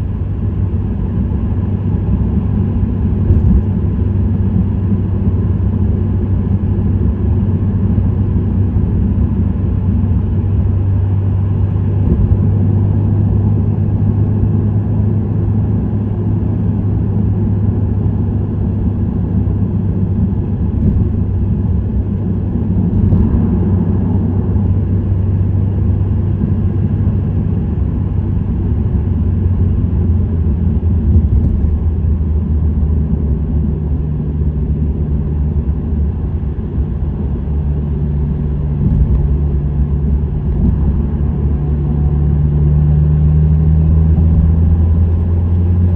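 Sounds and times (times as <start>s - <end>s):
low exhaust drone: 0.0s - 45.9s
road noise: 0.0s - 45.9s.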